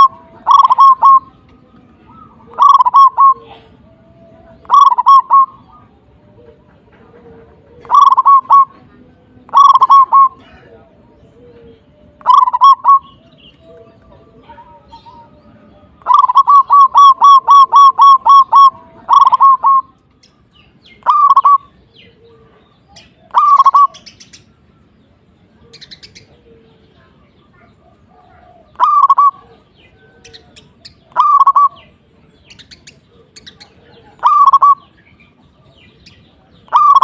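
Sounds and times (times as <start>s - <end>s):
dove cooing: 0.0s - 20.0s, 21.0s - 24.2s, 27.5s - 35.0s, 36.4s - 37.0s.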